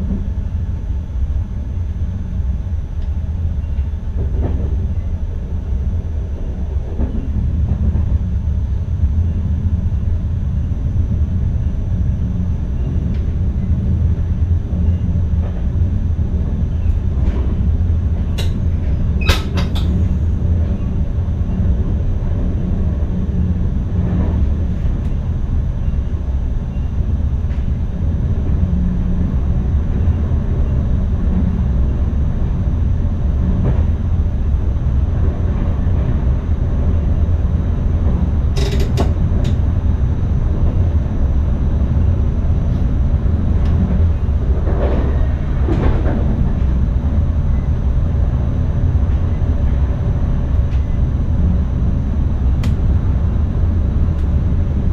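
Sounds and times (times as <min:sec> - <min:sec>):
train running along track: 0:00.0 - 0:54.9.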